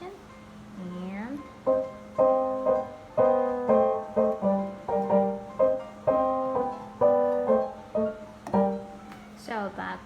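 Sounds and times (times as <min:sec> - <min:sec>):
piano chords: 0:00.0 - 0:09.8.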